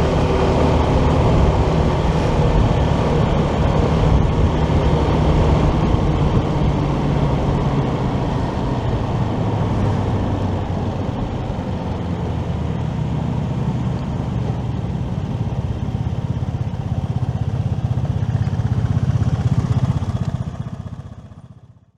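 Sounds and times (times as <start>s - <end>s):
wind and road noise: 0.0s - 21.8s
motorcycle engine running: 0.0s - 21.9s.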